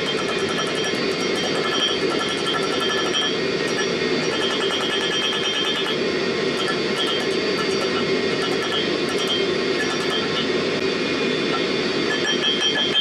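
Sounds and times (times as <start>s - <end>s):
forge burner rushing: 0.0s - 13.0s.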